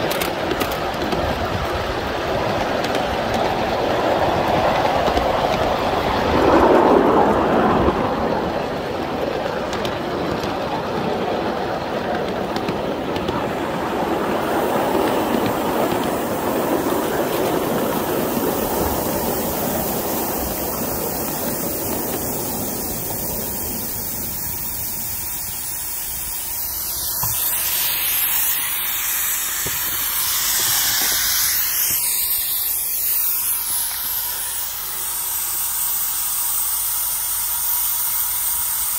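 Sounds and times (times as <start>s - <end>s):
steam hissing: 0.0s - 38.9s
steam locomotive running: 0.0s - 38.9s.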